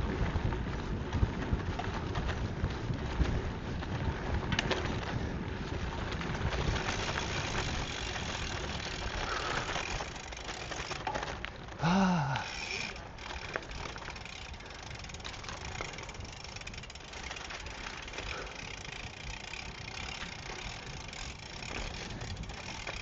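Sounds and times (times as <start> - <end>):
bike tyres crunching on dirt: 0.0 - 23.0.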